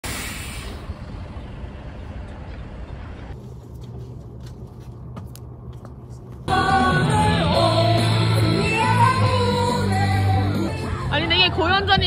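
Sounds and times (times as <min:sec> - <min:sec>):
outdoor traffic noise: 0:00.0 - 0:12.0.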